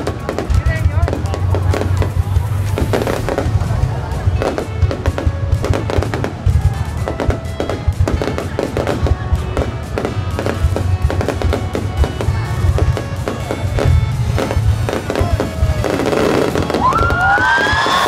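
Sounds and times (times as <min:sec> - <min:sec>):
fireworks bangs and crackles: 0:00.0 - 0:18.0
music with pulsing bass: 0:00.0 - 0:18.0.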